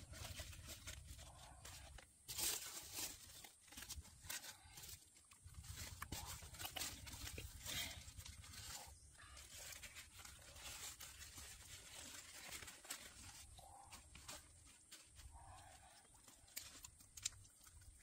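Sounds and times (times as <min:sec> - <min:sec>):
hands working in wet mud: 0:00.0 - 0:18.0
leaves rustling: 0:00.0 - 0:18.0
twigs crackling: 0:00.0 - 0:18.0.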